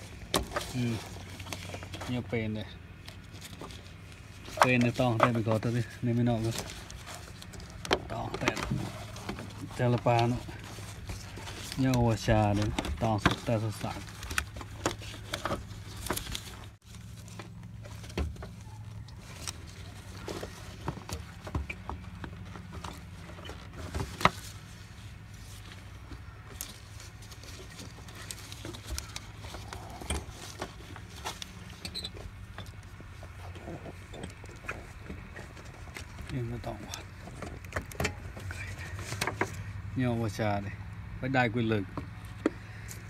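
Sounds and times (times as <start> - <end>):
clicks and knocks of handling parts: 3.0 - 24.6, 25.6 - 39.7.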